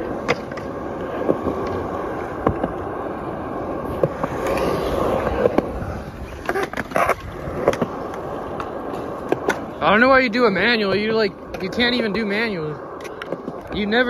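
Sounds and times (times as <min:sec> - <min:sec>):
sharp skateboard clicks: 0:00.0 - 0:10.6, 0:11.4 - 0:14.0
skateboard wheels rolling on concrete: 0:00.0 - 0:14.0.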